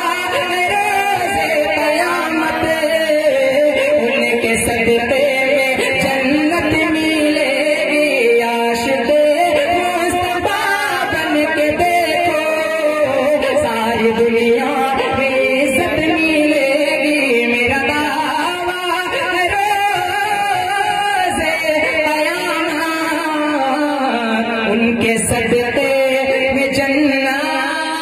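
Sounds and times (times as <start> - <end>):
man singing into a microphone: 0.0 - 28.0.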